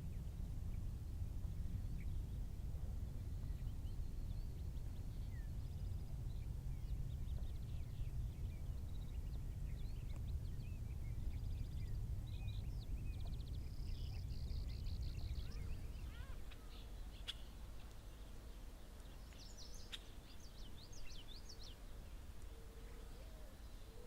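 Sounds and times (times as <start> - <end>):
small birds chirping and trilling: 3.4 - 24.0.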